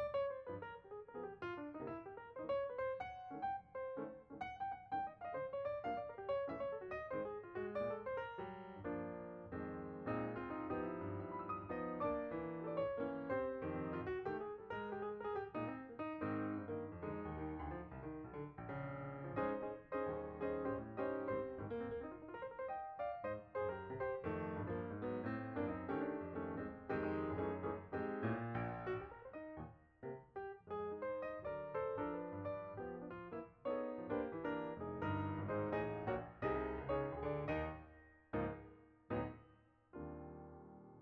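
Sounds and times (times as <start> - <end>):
piano music: 0.0 - 39.4, 40.0 - 41.0.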